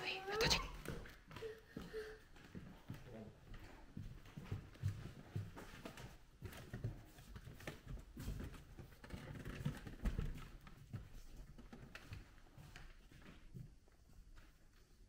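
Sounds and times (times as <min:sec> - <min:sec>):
footsteps on wooden floor: 0:00.1 - 0:14.9.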